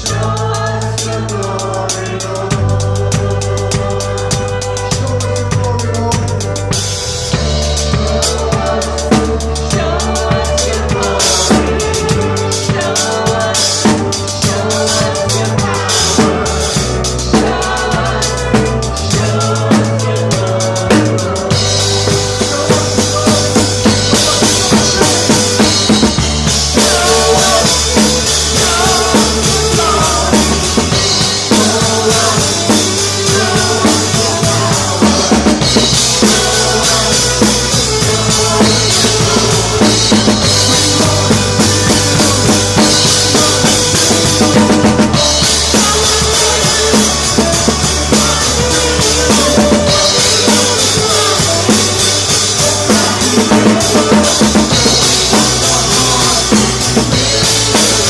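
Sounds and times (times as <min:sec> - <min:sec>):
cymbals: 0:00.0 - 0:58.0
drum kit beat: 0:00.0 - 0:58.0
worship band playing: 0:00.0 - 0:58.0.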